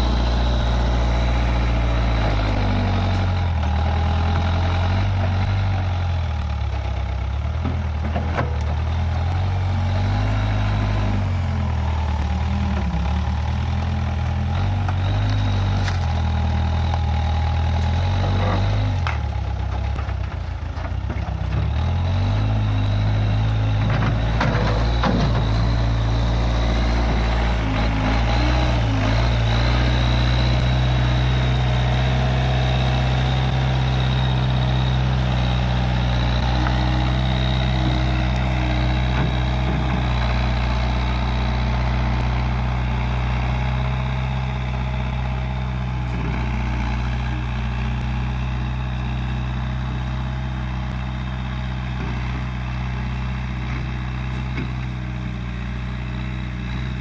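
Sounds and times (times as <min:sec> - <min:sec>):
backhoe engine running: 0:00.0 - 0:57.0.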